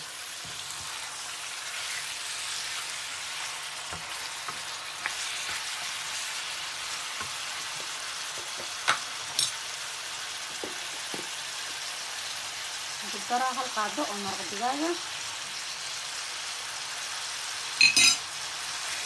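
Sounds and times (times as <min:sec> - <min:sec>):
meat and onions sizzling: 0:00.0 - 0:19.0.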